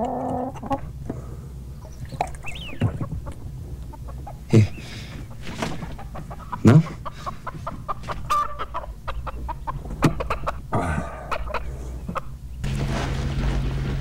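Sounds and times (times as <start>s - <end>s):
hen clucking: 0.0s - 12.6s.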